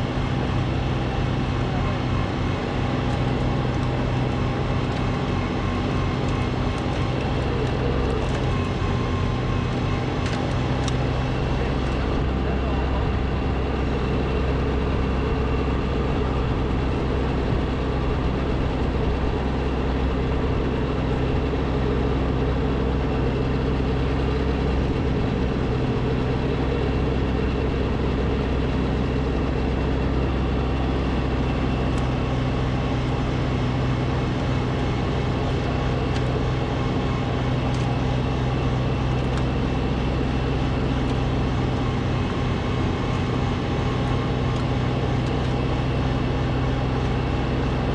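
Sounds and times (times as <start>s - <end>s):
snowblower engine running: 0.0s - 47.9s.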